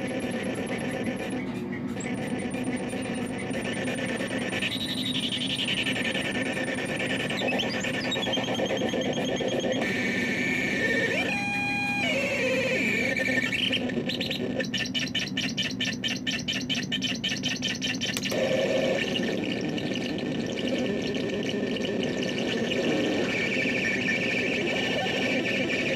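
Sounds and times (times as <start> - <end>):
fast pulsing stutter: 0.0 - 1.4, 2.0 - 25.9
hissing synthesizer drone: 0.0 - 15.5, 18.2 - 25.9.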